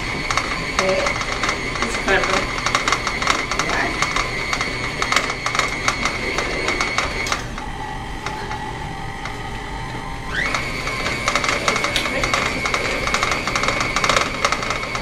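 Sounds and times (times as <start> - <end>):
electric stand mixer whining: 0.0 - 15.0
beater clicking in bowl: 0.1 - 8.6, 10.4 - 15.0.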